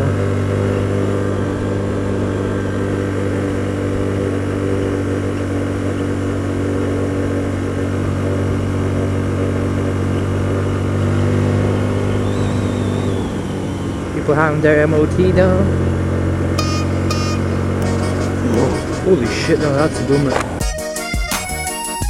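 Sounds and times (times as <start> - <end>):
motorcycle engine braking: 0.0 - 22.0.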